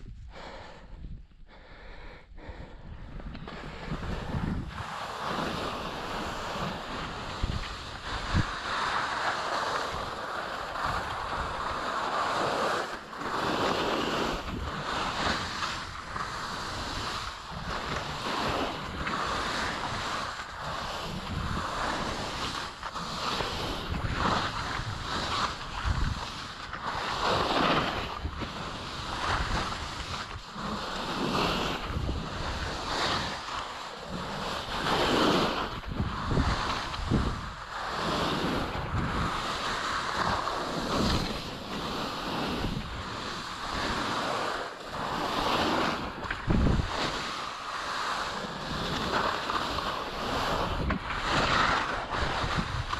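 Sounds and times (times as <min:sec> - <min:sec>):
wind on microphone: 0:00.0 - 0:52.9
skis scraping on snow: 0:03.2 - 0:52.9.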